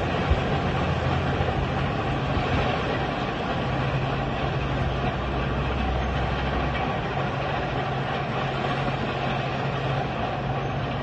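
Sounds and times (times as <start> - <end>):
bulldozer diesel engine running: 0.0 - 11.0
rumbling grinding noise: 0.0 - 11.0.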